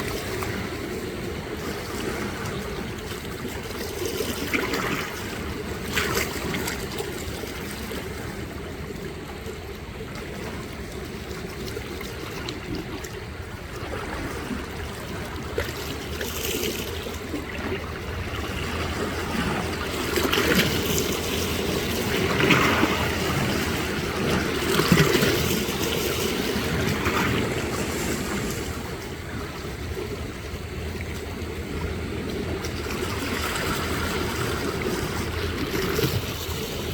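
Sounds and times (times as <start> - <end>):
small waves lapping: 0.0 - 36.9.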